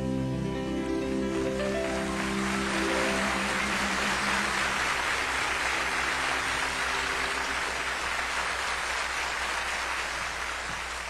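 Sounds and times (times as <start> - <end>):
band's held notes: 0.0 - 11.0
audience applauding: 0.8 - 11.0.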